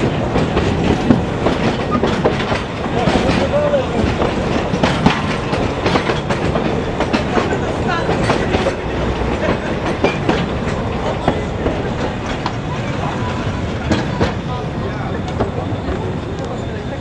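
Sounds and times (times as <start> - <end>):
wheels clicking over track: 0.0 - 14.6
train running gear rumbling: 0.0 - 17.0.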